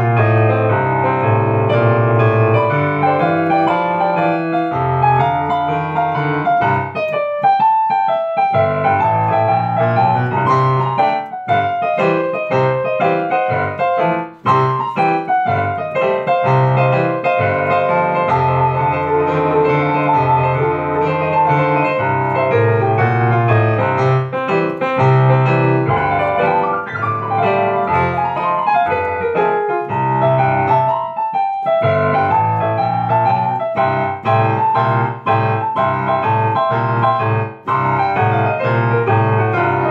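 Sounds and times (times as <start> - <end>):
solo piano: 0.0 - 39.9.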